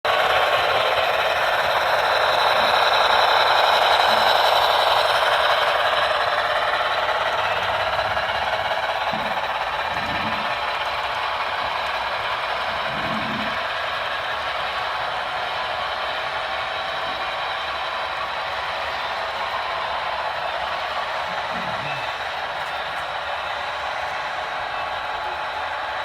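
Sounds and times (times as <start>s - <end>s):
model train rattling on track: 0.1s - 26.0s.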